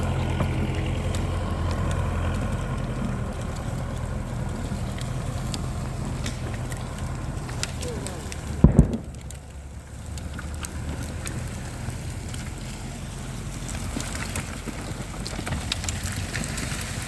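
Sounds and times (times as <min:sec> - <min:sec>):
sharp clicks and crackles: 0:00.0 - 0:17.0
tractor diesel engine rumbling: 0:00.0 - 0:17.0.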